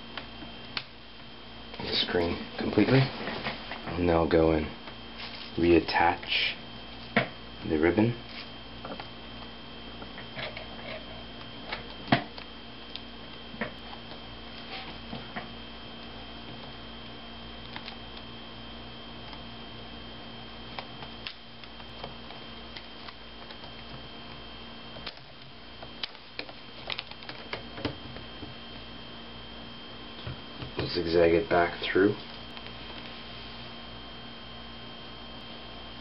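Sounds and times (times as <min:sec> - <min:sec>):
high-pitched whine: 0:00.0 - 0:36.0.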